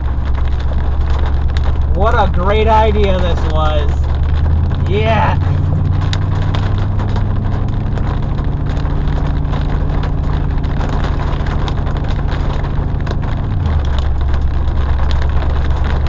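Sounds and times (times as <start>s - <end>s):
rain hissing: 0.0s - 16.0s
raindrops ticking on vehicle: 0.0s - 16.0s
truck engine running: 0.0s - 16.0s.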